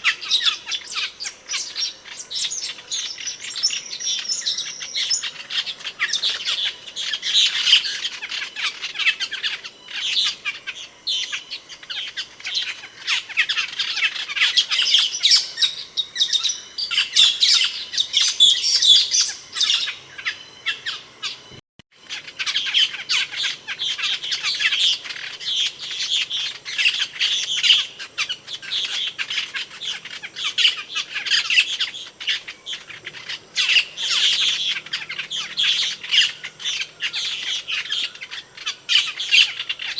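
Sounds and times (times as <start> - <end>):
starling chirping and squawking: 0.0 - 39.9.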